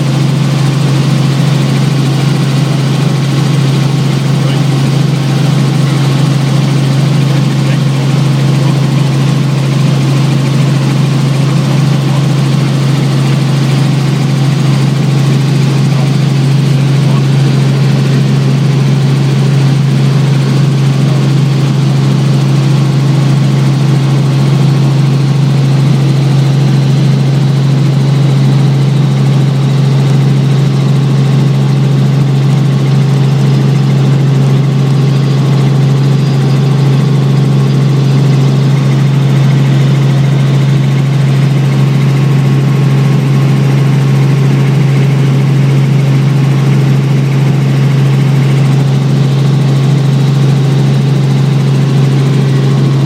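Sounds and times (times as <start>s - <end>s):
helicopter engine and rotors: 0.0s - 53.0s.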